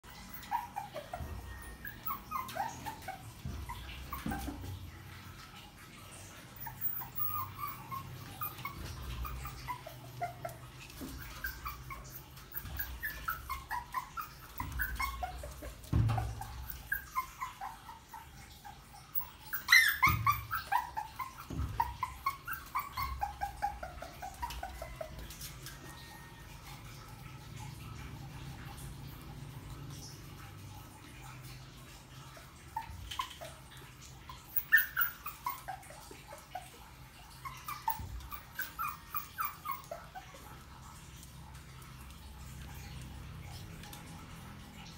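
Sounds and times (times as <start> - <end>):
puppy whimpering and yipping: 0.0 - 29.4, 30.0 - 44.9.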